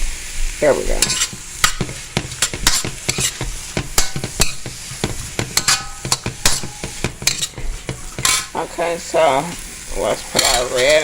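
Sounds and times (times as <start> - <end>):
garlic and onions sizzling in oil: 0.0 - 11.0
utensil scraping a wok: 0.0 - 11.0.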